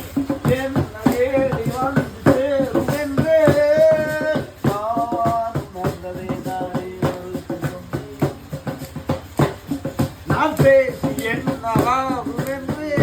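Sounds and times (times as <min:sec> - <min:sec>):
steady percussion beat: 0:00.0 - 0:13.0
person singing: 0:00.3 - 0:08.8, 0:10.3 - 0:13.0.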